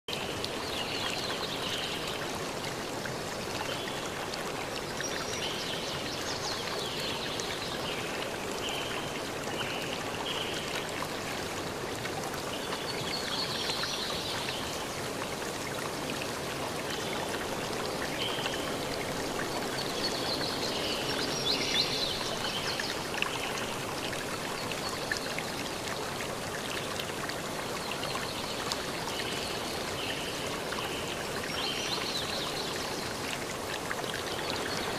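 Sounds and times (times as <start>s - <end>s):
flowing water rushing: 0.1s - 34.9s.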